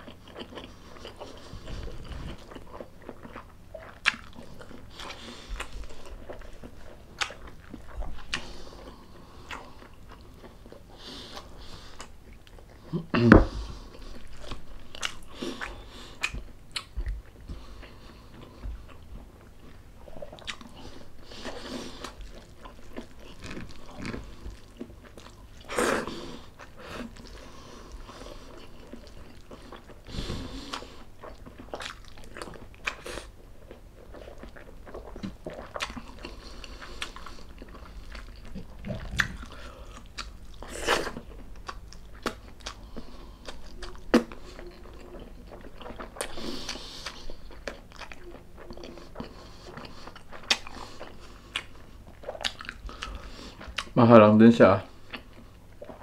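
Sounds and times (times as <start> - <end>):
person chewing food: 0.0 - 54.0, 54.8 - 56.0.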